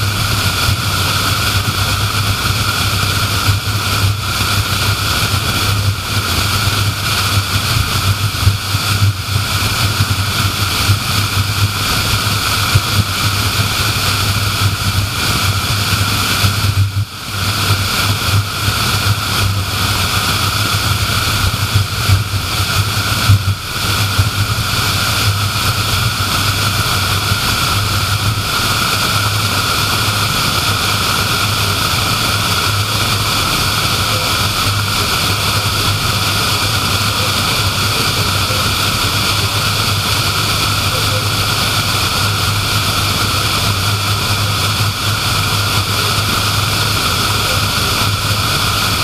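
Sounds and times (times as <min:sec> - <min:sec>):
car road and wind noise: 0:00.0 - 0:49.0.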